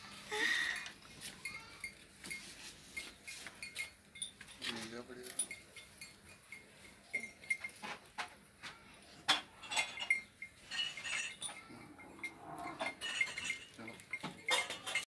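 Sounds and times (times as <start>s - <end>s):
light clinks and tinkles: 0.0s - 15.0s.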